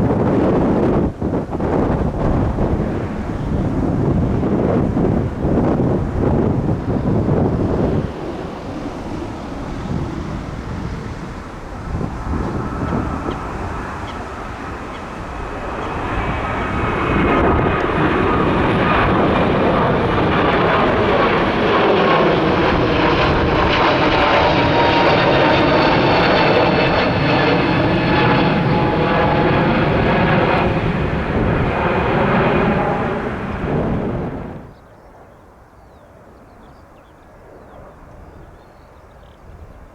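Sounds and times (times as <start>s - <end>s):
jet airliner flying overhead: 0.0s - 39.9s.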